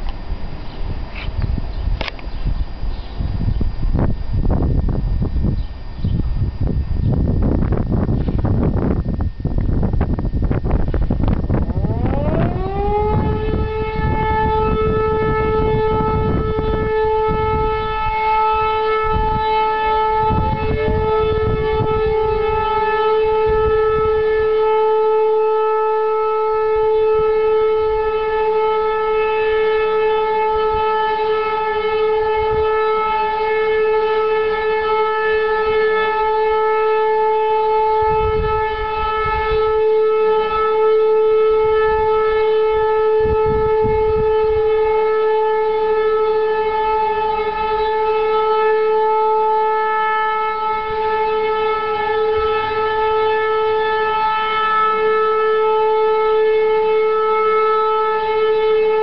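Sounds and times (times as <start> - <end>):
air-raid siren long tone: 0.0 - 59.0
second siren rising in pitch: 0.8 - 59.0.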